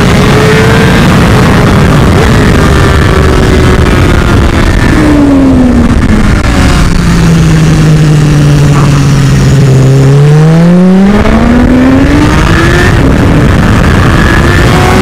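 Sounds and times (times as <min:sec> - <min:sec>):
motorcycle engine revving: 0:00.0 - 0:15.0
wind on microphone: 0:00.0 - 0:15.0.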